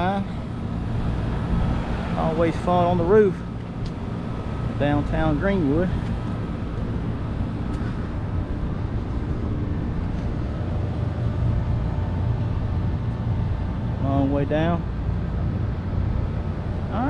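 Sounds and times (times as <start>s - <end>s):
air unit blower rumbling: 0.0s - 17.0s
faint hum: 0.0s - 17.0s.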